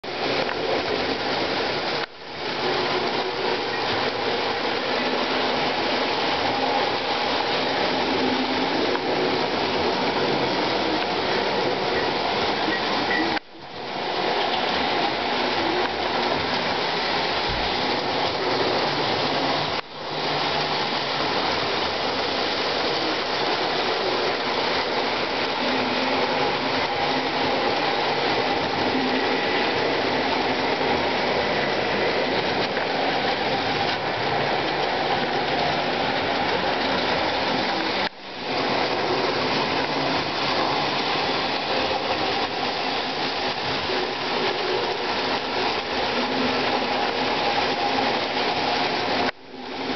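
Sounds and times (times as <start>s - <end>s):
model trains rolling rumble: 0.0s - 49.9s.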